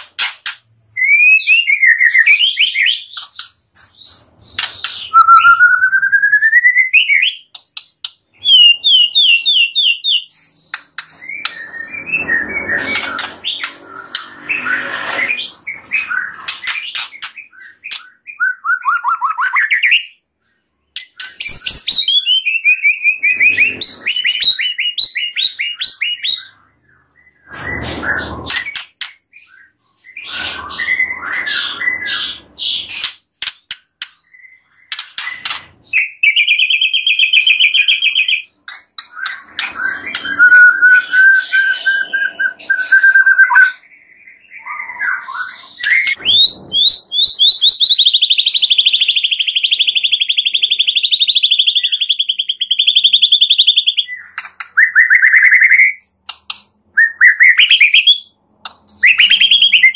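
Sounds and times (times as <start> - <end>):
bird singing whistled song: 0.8 - 7.6, 8.4 - 20.2, 21.0 - 33.1, 34.2 - 56.1, 56.9 - 59.9.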